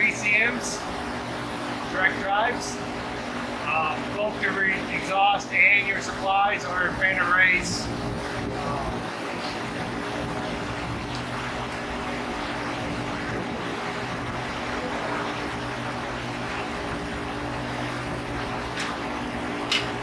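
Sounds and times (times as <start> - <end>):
rooftop hvac unit running: 0.0 - 20.0.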